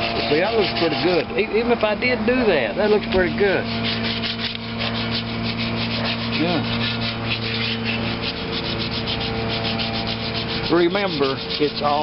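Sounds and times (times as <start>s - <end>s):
sandpaper rubbing on metal: 0.0s - 1.8s, 2.4s - 12.0s.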